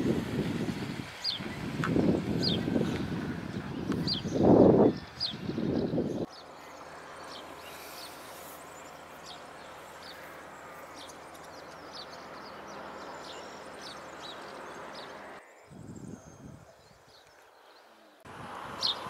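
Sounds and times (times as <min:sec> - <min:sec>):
outdoor background hiss: 0:00.0 - 0:19.0
sparrows chirping: 0:00.1 - 0:19.0.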